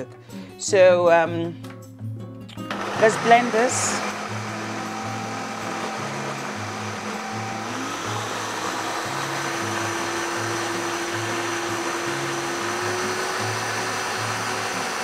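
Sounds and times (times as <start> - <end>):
electric blender running: 2.6 - 15.0.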